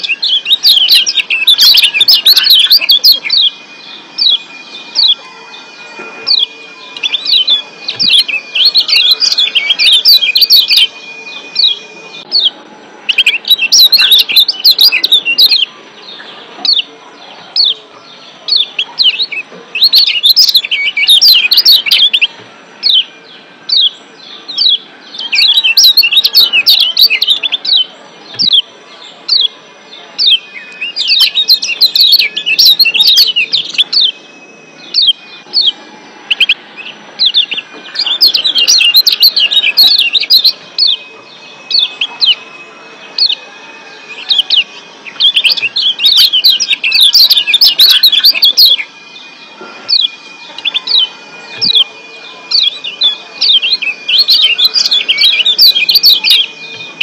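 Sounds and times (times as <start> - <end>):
bird chirp calls: 0.0 - 57.0.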